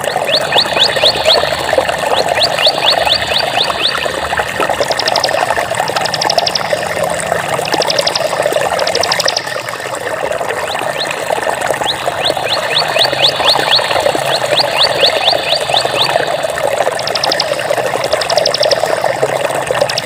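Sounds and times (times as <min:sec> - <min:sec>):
high chirping bird calls: 0:00.0 - 0:06.8, 0:07.8 - 0:09.8, 0:10.6 - 0:19.1
running water babbling: 0:00.0 - 0:20.0.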